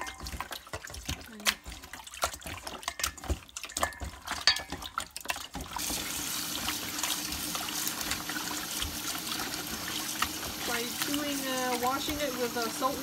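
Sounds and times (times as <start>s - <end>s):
hands squelching wet meat: 0.0s - 13.0s
tap water running into bowl: 0.0s - 13.0s.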